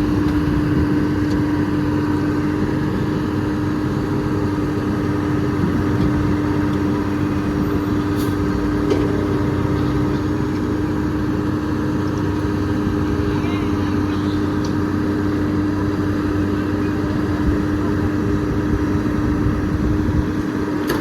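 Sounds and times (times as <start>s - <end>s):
large engine running steadily: 0.0s - 21.0s.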